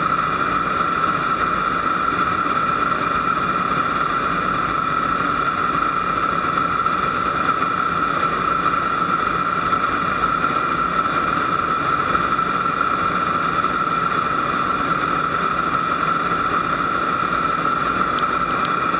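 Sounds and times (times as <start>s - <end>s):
jet engine whine in cockpit: 0.0s - 18.9s.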